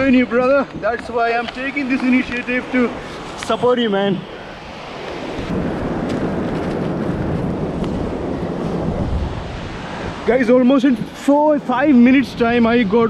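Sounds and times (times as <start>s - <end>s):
surf: 0.0s - 13.0s
wind noise on microphone: 0.0s - 13.0s.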